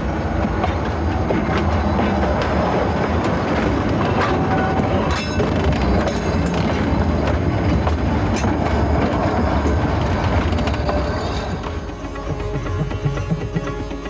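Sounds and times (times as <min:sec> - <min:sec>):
train rumbling: 0:00.0 - 0:14.0
wheels clattering over rail joints: 0:00.0 - 0:14.0.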